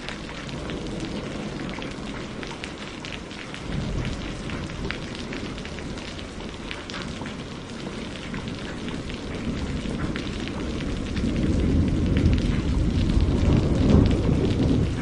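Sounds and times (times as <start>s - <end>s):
close raindrops: 0.0s - 15.0s
steady rain: 0.0s - 15.0s
thunder rumbling: 0.0s - 15.0s.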